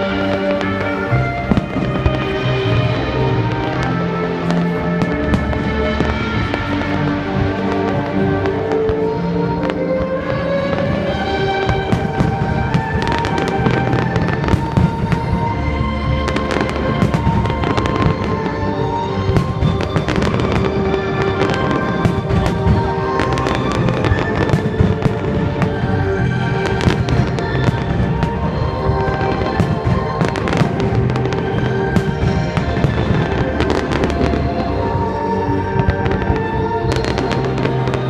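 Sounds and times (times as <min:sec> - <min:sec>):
fireworks bursting and crackling: 0:00.0 - 0:38.0
music with sustained notes: 0:00.0 - 0:38.0.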